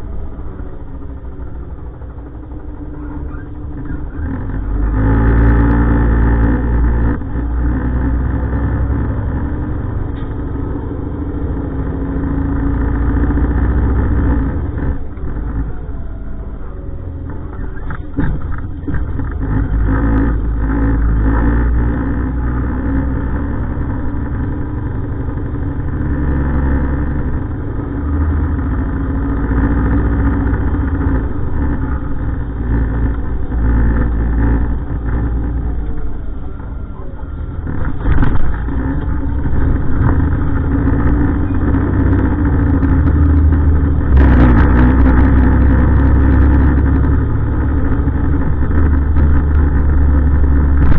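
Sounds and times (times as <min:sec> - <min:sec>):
diesel truck engine rumbling: 0:00.0 - 0:50.9.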